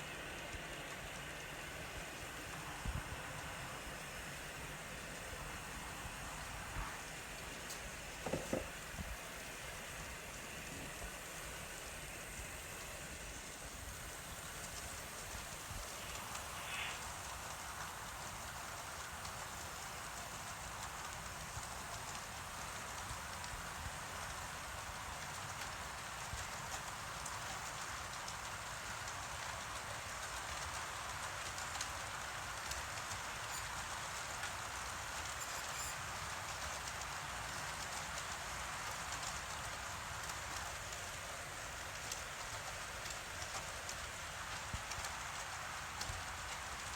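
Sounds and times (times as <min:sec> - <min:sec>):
model train rushing noise: 0:00.0 - 0:46.9
wheels clicking on rails: 0:00.0 - 0:46.9.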